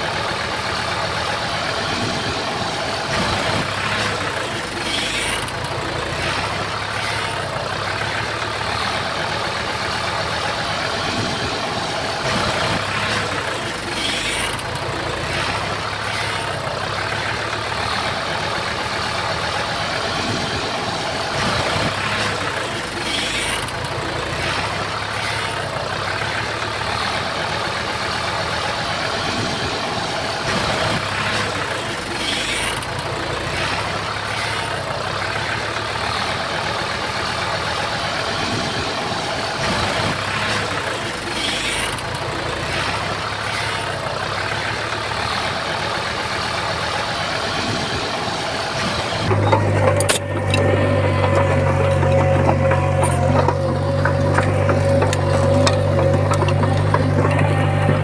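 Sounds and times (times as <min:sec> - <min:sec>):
bulldozer diesel engines running: 0:00.0 - 0:58.0.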